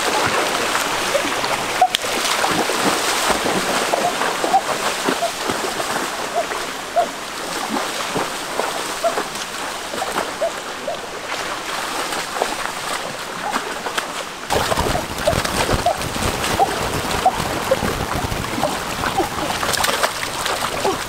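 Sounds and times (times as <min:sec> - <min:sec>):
person wading through water: 0:00.0 - 0:21.0
stream running over rocks: 0:00.0 - 0:21.0.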